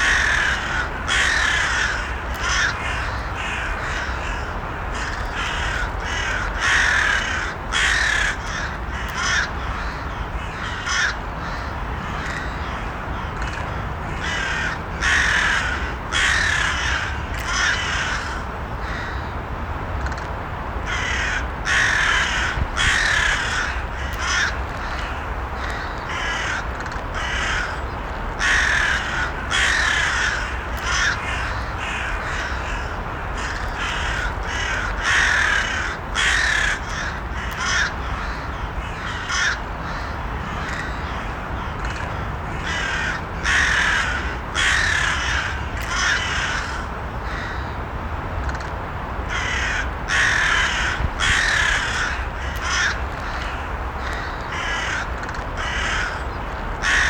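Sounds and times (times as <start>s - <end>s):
crows cawing: 0.0s - 19.3s, 20.8s - 47.8s, 49.3s - 57.0s
low background noise: 0.0s - 57.0s.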